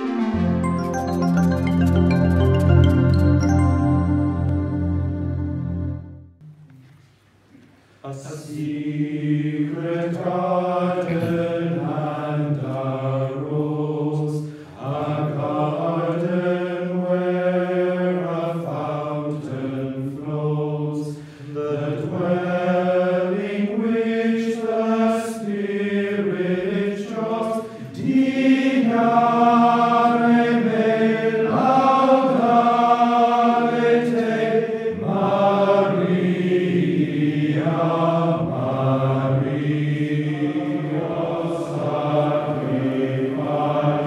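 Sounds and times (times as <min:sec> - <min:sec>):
men's choir singing a chant: 0:08.1 - 0:44.0.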